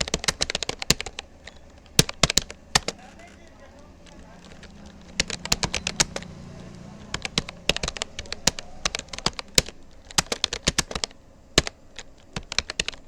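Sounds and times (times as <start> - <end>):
keyboard typing clicks: 0.0 - 13.0.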